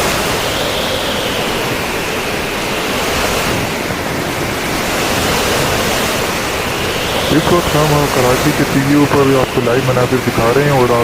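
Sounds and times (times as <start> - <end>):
waves breaking rough surf: 0.0 - 11.0.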